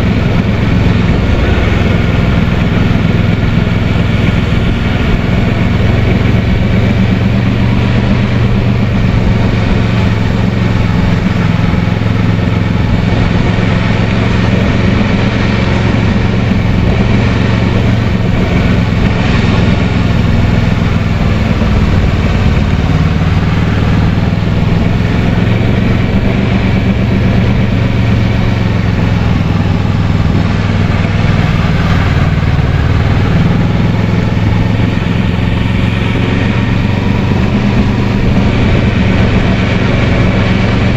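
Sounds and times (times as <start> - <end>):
motorcycle engine running: 0.0 - 40.9
rushing noise: 0.0 - 40.9.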